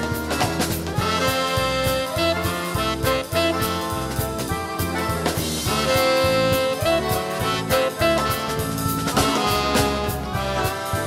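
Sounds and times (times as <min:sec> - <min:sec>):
accordion chords: 0:00.0 - 0:11.0
drums on cymbals and snare: 0:00.0 - 0:11.0
swing jazz band playing: 0:00.0 - 0:11.0
walking bass: 0:00.0 - 0:11.0.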